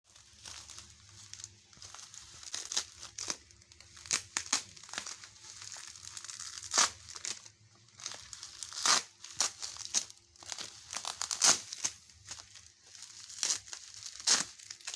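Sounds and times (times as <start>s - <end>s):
packaging crinkling: 0.1s - 14.9s.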